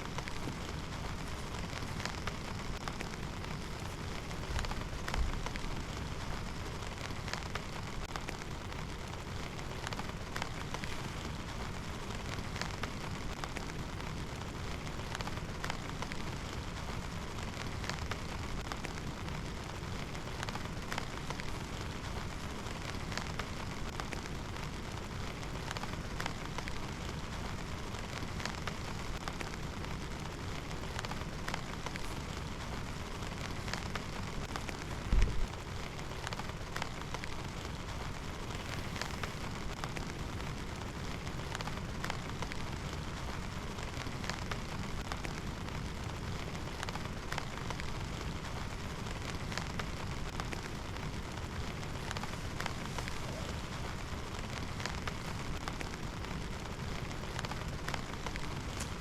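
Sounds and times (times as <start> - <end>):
raindrops ticking on surface: 0.0 - 59.0
steady rain: 0.0 - 59.0.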